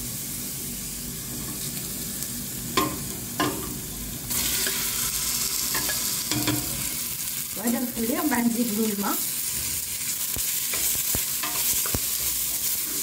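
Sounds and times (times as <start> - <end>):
onion sizzling in butter: 0.0 - 13.0.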